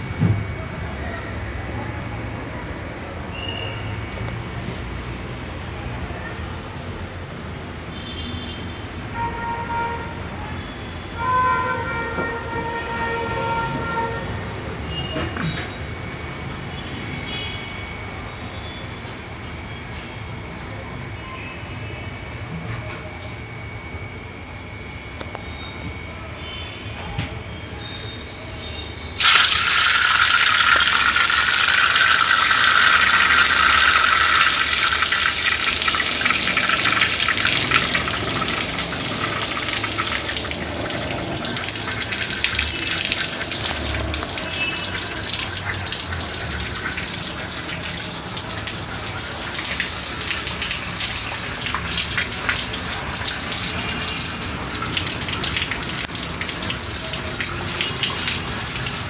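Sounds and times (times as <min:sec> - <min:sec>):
water gushing from hose tap: 0:02.6 - 0:20.5, 0:29.2 - 0:59.0.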